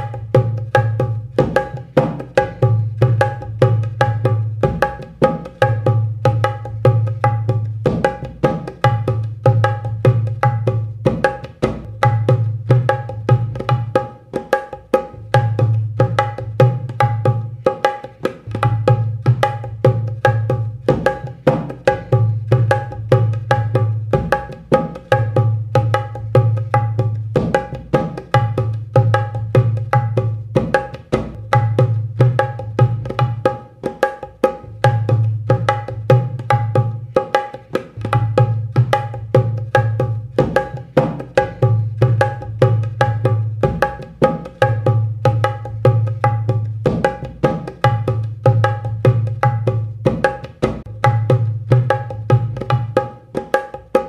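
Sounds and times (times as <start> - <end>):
hand drum rhythm: 0.0 - 54.0.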